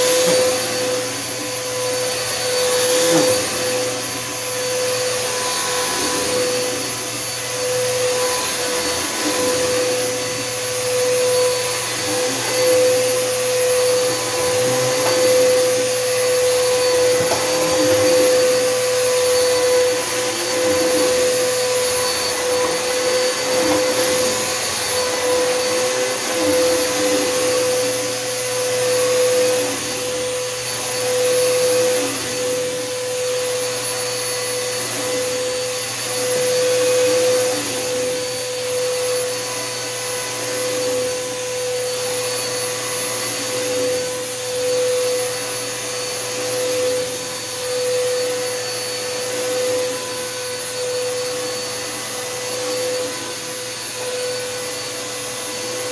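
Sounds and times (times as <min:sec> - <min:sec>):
vacuum cleaner running on carpet: 0:00.0 - 0:55.9.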